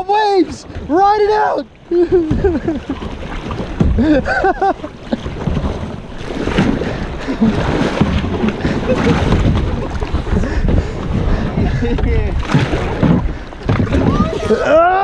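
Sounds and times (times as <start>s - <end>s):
water splashing against kayak: 0.0s - 15.0s
wind buffeting microphone: 0.0s - 15.0s.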